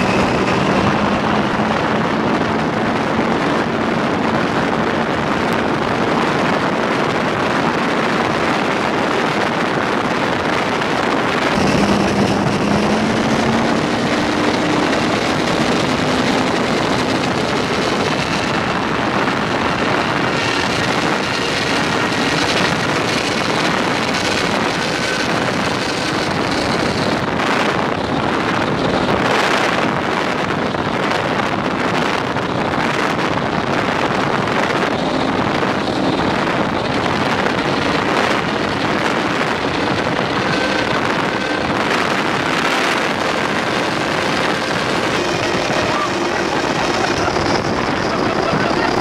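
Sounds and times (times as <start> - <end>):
powerboat engine and water rush: 0.0 - 49.0
wind buffeting microphone: 0.0 - 49.0.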